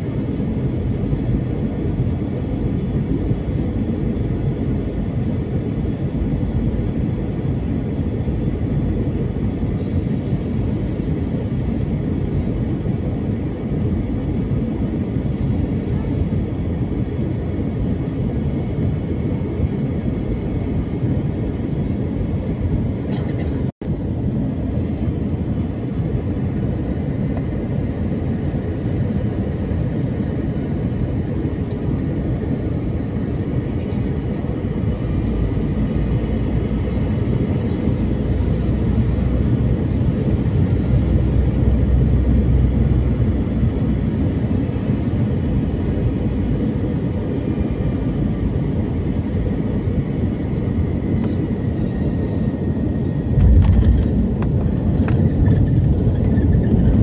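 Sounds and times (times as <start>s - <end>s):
airliner cabin engine noise: 0.0s - 57.0s.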